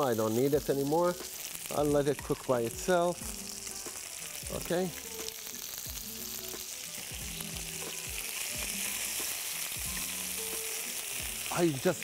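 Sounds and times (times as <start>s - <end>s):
chicken sizzling in a skillet: 0.0s - 12.0s.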